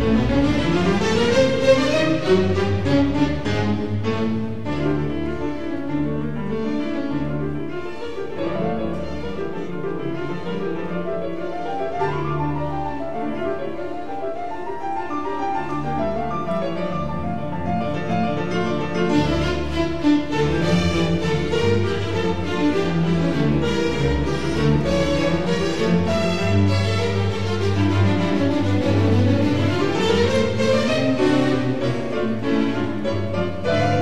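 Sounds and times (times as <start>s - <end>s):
classical instrumental music: 0.0s - 34.0s.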